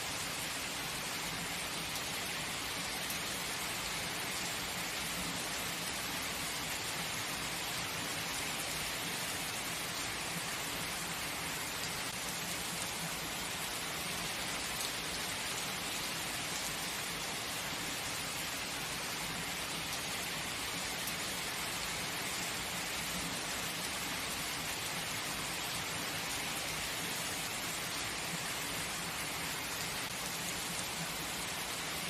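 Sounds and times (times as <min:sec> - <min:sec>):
heavy rain falling: 0:00.1 - 0:32.0.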